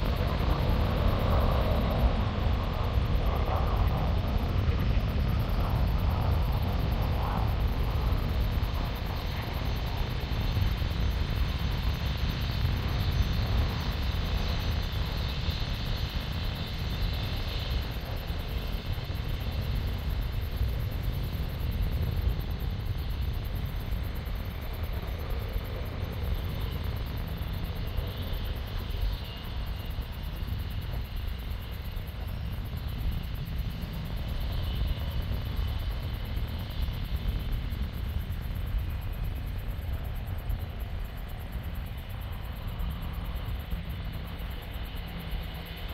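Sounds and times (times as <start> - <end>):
faint high jet whine: 0.0 - 45.9
jet engines rumbling: 0.0 - 45.9.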